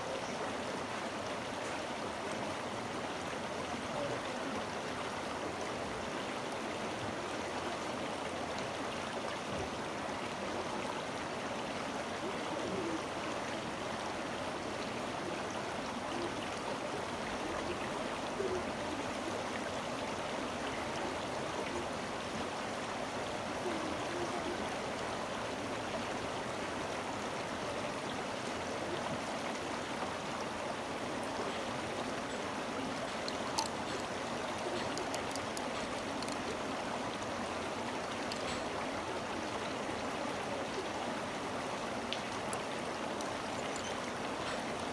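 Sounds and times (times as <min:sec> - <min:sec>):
stream running: 0:00.0 - 0:44.9.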